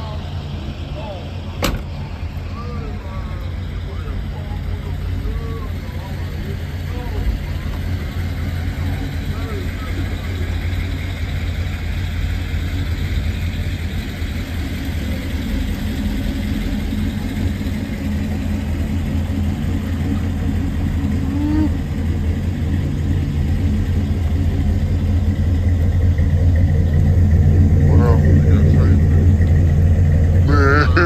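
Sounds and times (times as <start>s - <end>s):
car engine and road noise inside: 0.0s - 31.0s.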